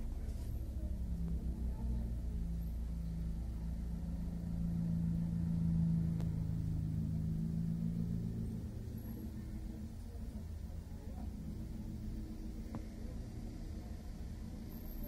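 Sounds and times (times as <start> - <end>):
small car approaching: 0.0 - 15.0
van driving past: 0.0 - 15.0.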